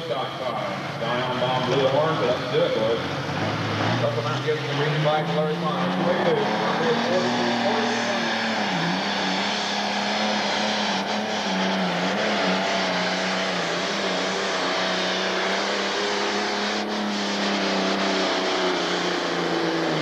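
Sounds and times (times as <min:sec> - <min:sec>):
diesel engine running hard: 0:00.0 - 0:20.0.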